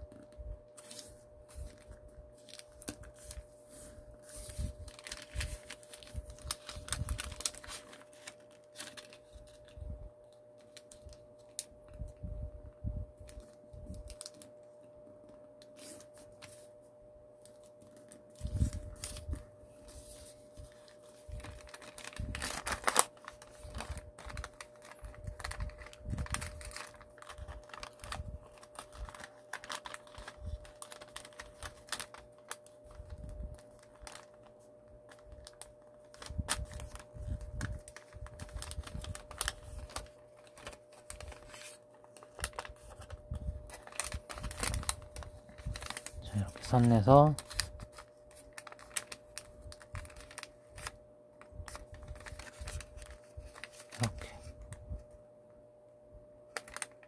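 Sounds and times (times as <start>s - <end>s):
paper crinkling and rustling: 0.0s - 12.1s, 13.2s - 14.6s, 15.5s - 16.8s, 17.4s - 55.0s, 56.5s - 57.0s.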